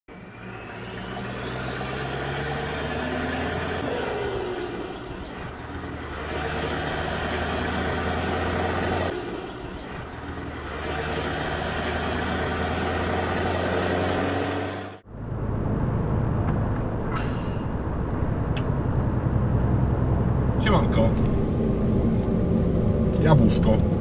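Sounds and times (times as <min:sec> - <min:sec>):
diesel engine drone: 0:00.1 - 0:24.0
truck whooshes: 0:00.4 - 0:24.0.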